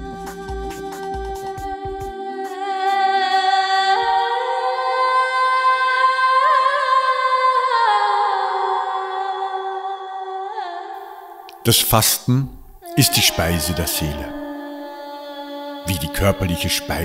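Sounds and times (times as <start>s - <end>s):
high voice singing long notes: 0.0s - 17.0s.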